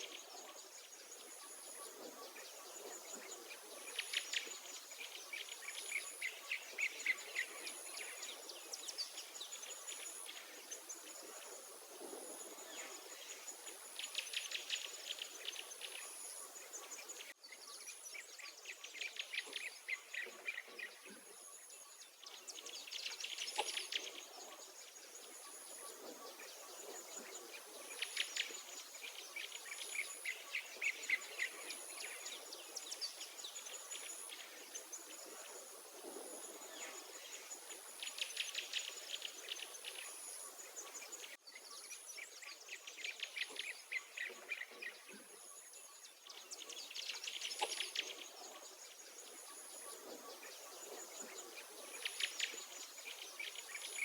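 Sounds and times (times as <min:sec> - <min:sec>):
songbirds trilling chirps: 0:00.0 - 0:54.0.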